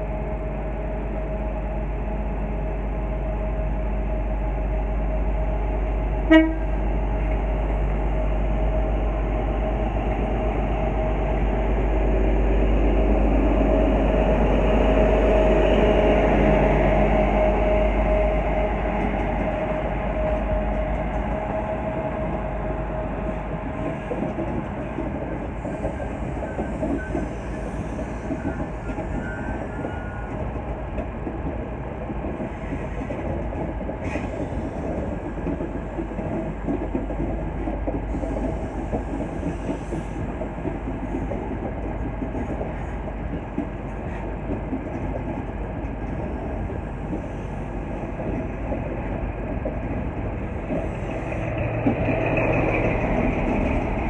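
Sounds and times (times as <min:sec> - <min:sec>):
diesel locomotive engine passing: 0:00.0 - 0:54.0
train coaches rumbling and clattering: 0:00.0 - 0:54.0.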